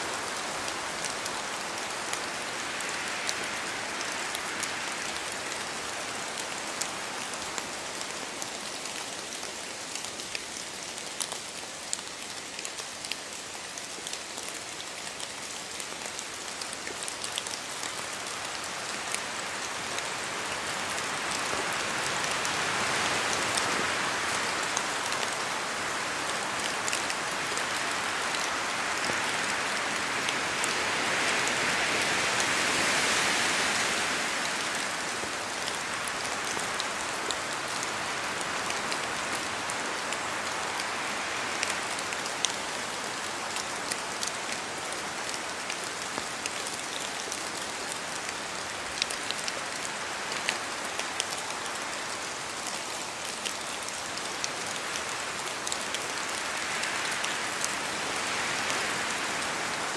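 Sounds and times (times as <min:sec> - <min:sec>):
rain on trees and foliage: 0:00.0 - 0:59.9.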